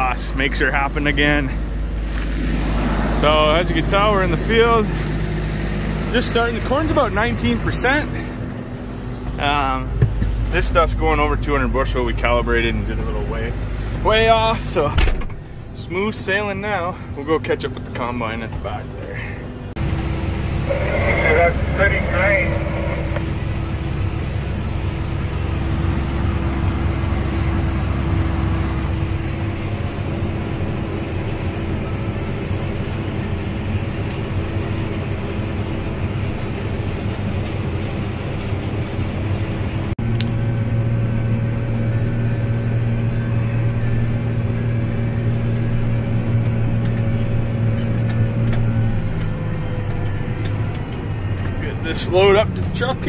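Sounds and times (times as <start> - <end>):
faint high engine whine: 0.0 - 53.0
tractor engine droning: 0.0 - 53.0.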